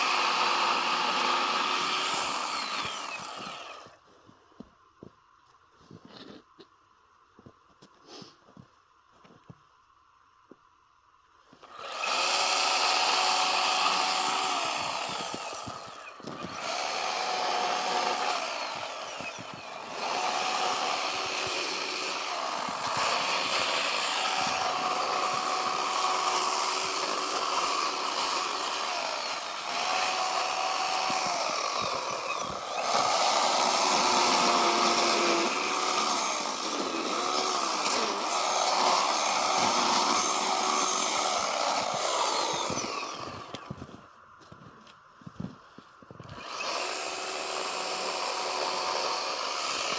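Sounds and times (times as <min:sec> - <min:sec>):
chainsaw cutting snow: 0:00.0 - 0:04.1, 0:08.1 - 0:08.6, 0:11.6 - 0:49.9.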